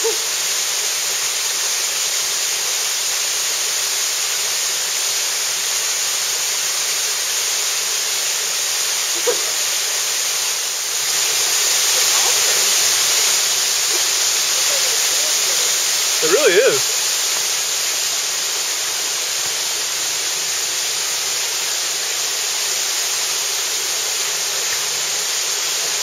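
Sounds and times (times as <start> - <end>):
waterfall pouring into a pool: 0.0 - 26.0.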